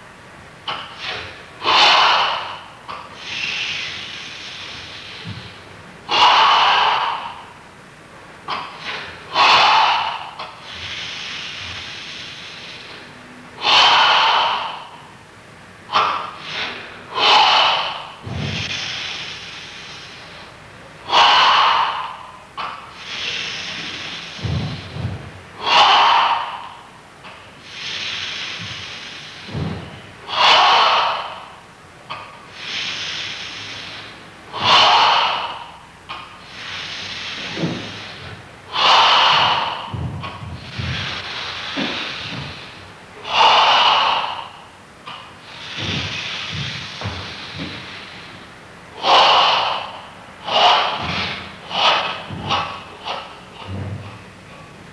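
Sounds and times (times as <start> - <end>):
quiet hissing breaths: 0.0 - 54.9
forceful breaths through nose: 0.7 - 7.6, 8.4 - 15.2, 15.9 - 54.7.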